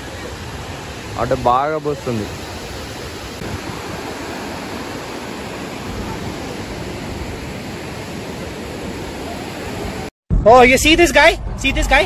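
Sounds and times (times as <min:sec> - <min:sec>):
water rushing over dam: 0:00.0 - 0:10.1.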